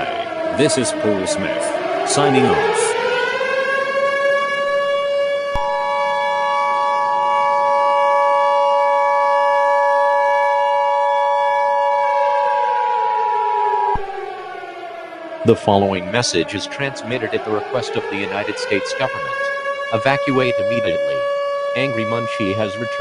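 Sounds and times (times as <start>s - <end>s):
siren winding up and down: 0.0s - 23.0s.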